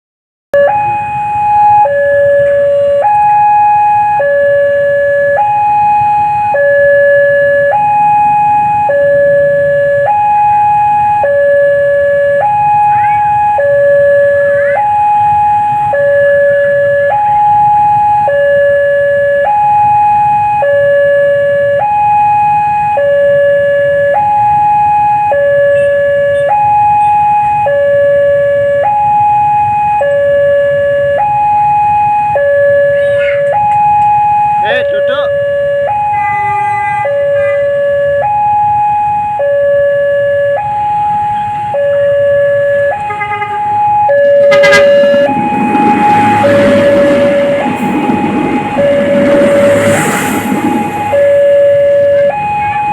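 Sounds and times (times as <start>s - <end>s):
level crossing two-tone alarm: 0.6s - 52.9s.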